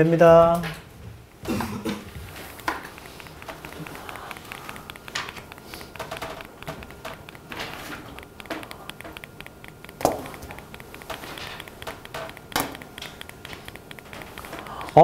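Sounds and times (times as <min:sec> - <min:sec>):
small taps and clicks at desks: 0:00.3 - 0:15.0.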